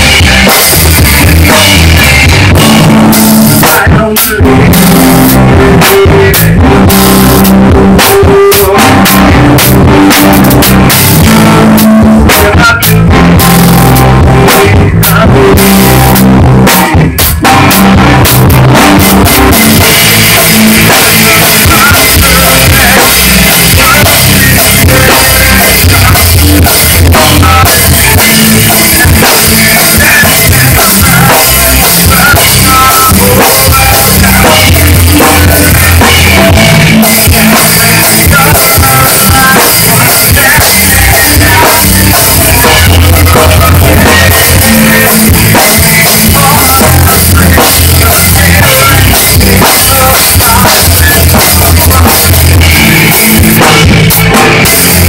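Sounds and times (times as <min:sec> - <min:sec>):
drum kit pounding: 0:00.0 - 0:55.0
rock band playing: 0:00.0 - 0:55.0.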